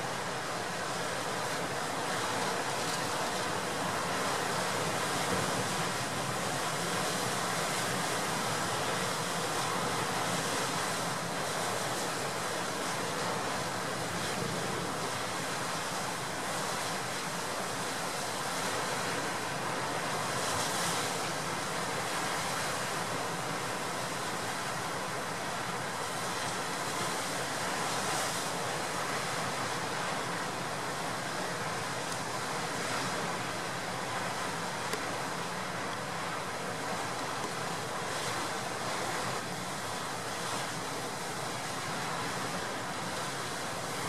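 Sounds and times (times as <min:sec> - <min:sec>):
gale wind: 0:00.0 - 0:44.0
heavy waves breaking: 0:00.0 - 0:44.0.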